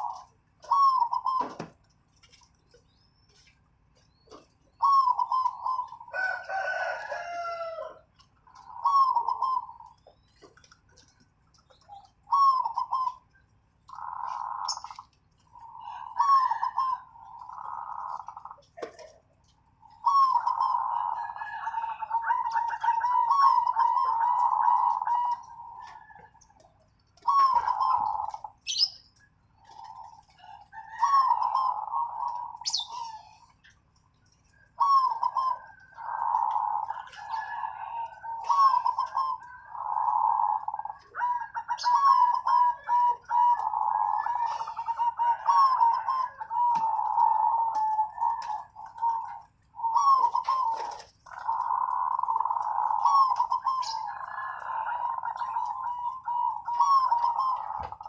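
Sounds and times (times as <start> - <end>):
dove cooing: 0.0 - 33.9, 34.5 - 58.0.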